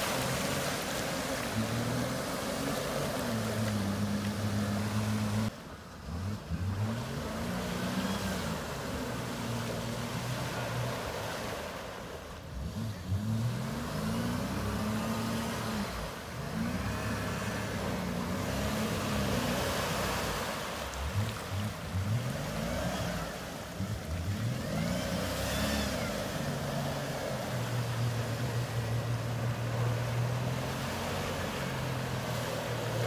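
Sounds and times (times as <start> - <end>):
water sloshing and splashing: 0.0 - 5.5, 6.1 - 33.0
engine revving: 0.0 - 11.6, 12.5 - 33.0.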